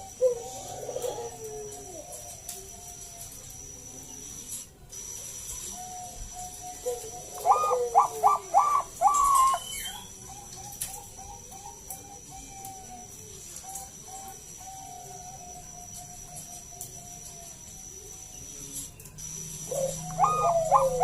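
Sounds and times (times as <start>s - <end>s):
dove cooing: 0.0s - 4.4s, 5.6s - 21.0s.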